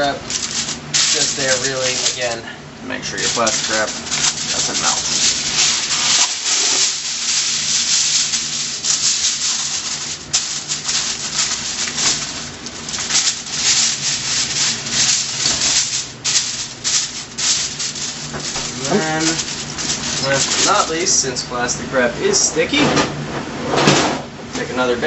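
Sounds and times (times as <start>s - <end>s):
aluminium foil crinkling: 0.0s - 21.2s.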